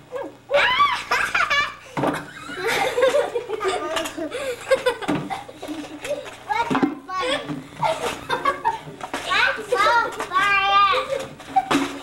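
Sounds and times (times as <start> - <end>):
giggling and chatter: 0.0 - 12.0
children laughing and squealing: 0.1 - 12.0.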